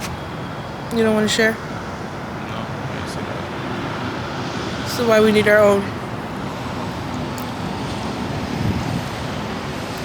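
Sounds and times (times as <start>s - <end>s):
road noise hiss: 0.0s - 10.0s.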